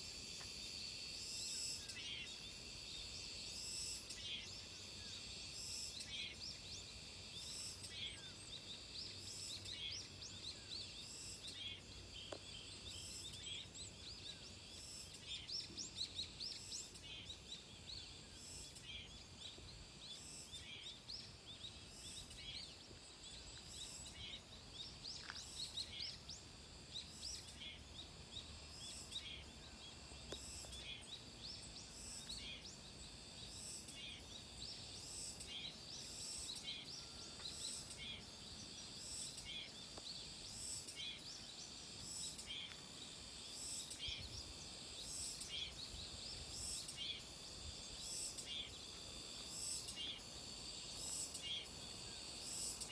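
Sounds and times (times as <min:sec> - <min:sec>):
cicadas buzzing: 0:00.0 - 0:52.9.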